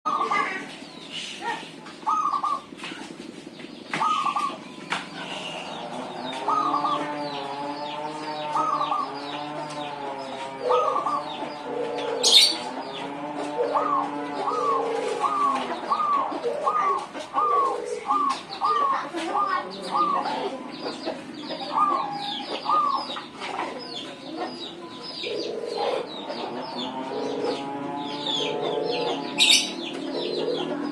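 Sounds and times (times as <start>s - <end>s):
small birds chirping: 0.1s - 30.9s
dove cooing: 1.4s - 3.2s, 3.9s - 30.9s.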